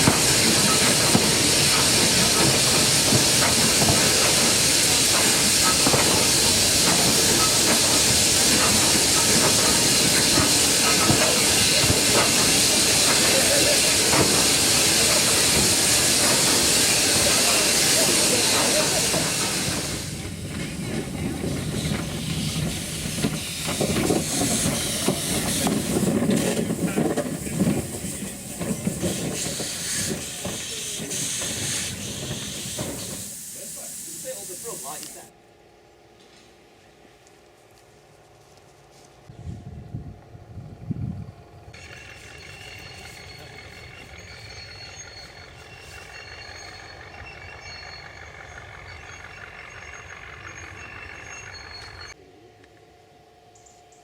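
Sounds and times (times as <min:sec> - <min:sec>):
steam locomotive hissing steam: 0:00.0 - 0:35.3, 0:41.8 - 0:52.2.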